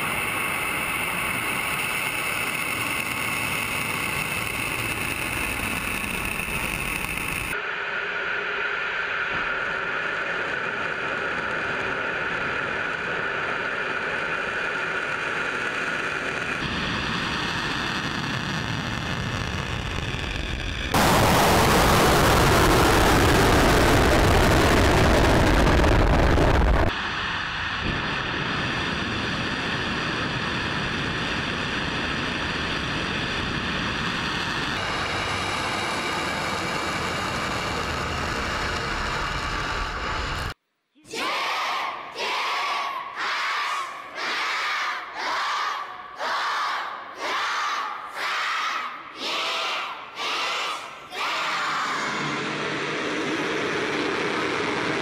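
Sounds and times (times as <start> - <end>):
rocket engines roaring: 0.0 - 40.6, 50.0 - 55.0.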